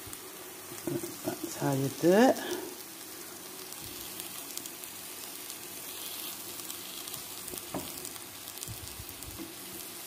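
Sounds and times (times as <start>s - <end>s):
food sizzling in oil: 0.0s - 10.0s
oil crackles: 0.0s - 10.0s.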